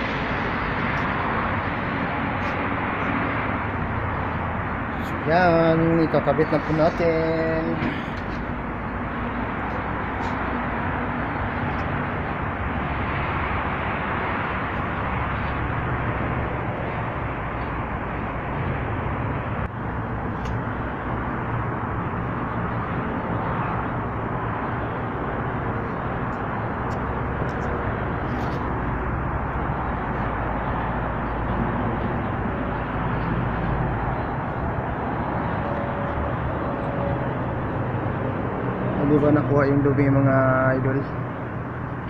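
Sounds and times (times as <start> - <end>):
rumbling outdoor background noise: 0.0 - 42.0.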